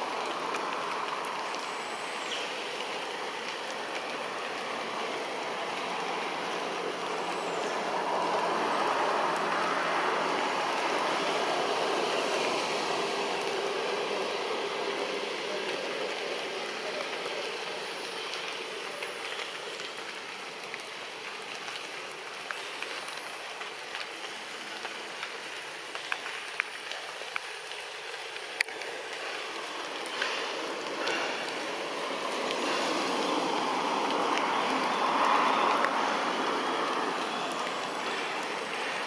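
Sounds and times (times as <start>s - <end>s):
outdoor background hiss: 0.0s - 39.0s.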